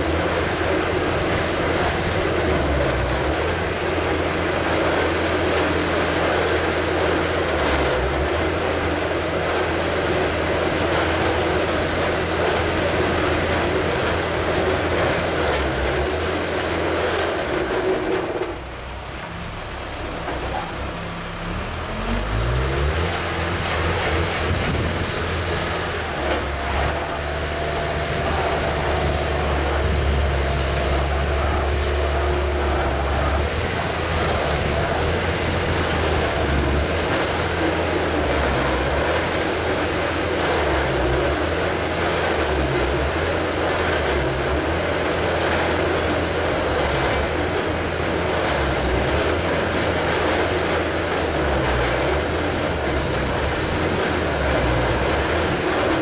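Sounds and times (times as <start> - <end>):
drilling machine rumble: 0.0 - 56.0.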